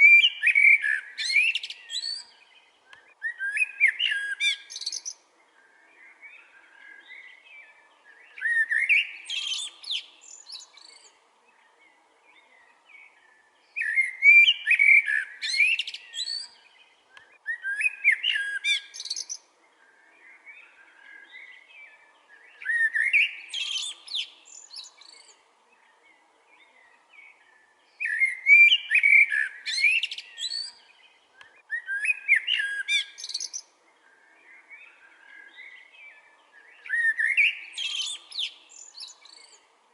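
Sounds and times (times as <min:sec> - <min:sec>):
songbird warbling: 0:00.0 - 0:39.6
soft bird chirps: 0:00.0 - 0:39.7.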